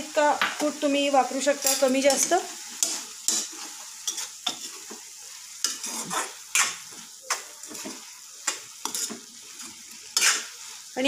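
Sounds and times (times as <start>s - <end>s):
frying sizzle: 0.0s - 11.0s
metal spatula scraping pan: 1.6s - 10.7s.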